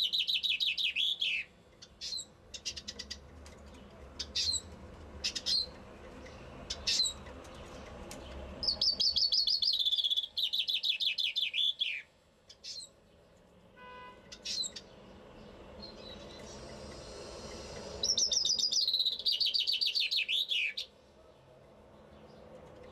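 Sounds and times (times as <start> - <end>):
chaffinch singing: 0.0 - 13.3, 14.2 - 21.0.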